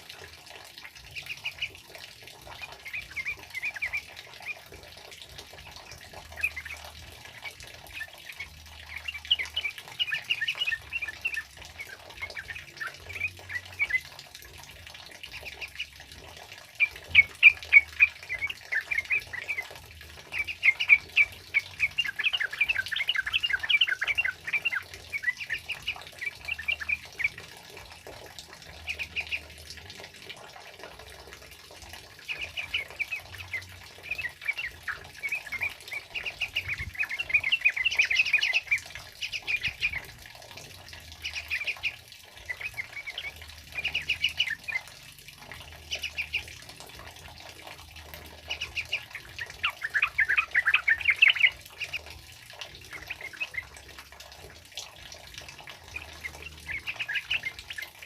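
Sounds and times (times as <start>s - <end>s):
bulbuls chattering song: 0.8s - 14.3s, 15.2s - 30.1s, 31.8s - 54.0s, 55.4s - 58.0s.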